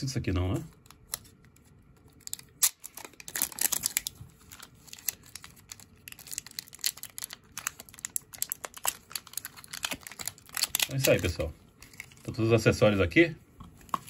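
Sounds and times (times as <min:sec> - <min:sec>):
plastic wrap crinkling: 0:00.7 - 0:13.1.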